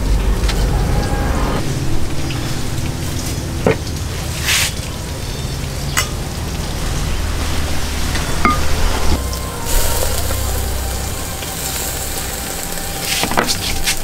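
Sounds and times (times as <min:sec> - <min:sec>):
oil sizzling in deep-frying: 0:01.5 - 0:14.0.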